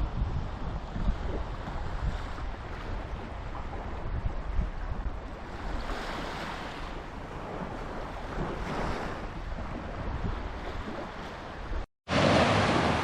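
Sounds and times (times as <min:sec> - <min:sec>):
wind rumbling on microphone: 0:00.0 - 0:11.9
small waves washing onto beach: 0:00.0 - 0:13.0.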